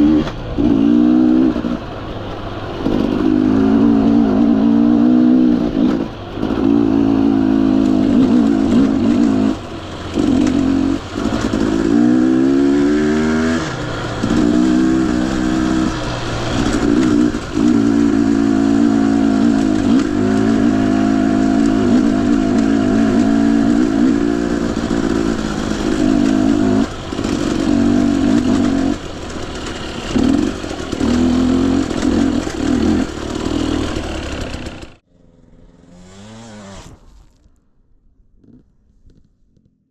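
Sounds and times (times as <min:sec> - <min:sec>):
dirt bike engine revving: 0:00.0 - 0:37.4.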